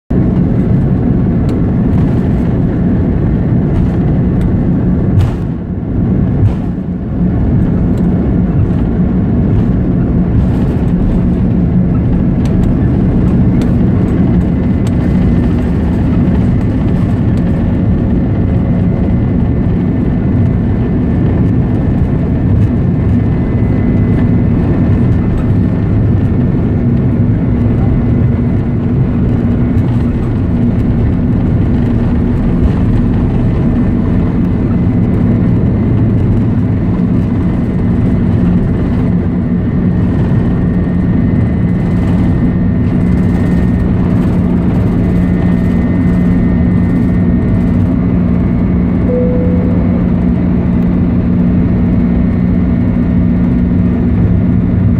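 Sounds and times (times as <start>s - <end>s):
airliner cabin engine rumble: 0.1s - 54.9s.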